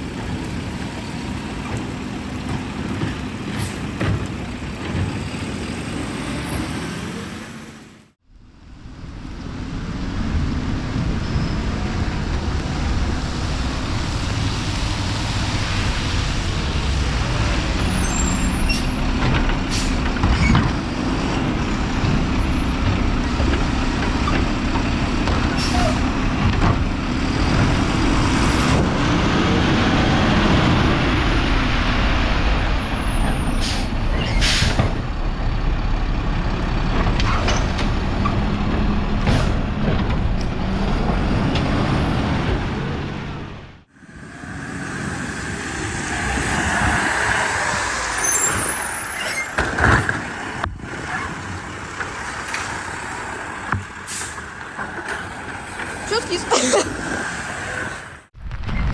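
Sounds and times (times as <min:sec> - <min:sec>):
diesel engine rumble: 0:00.0 - 0:58.9.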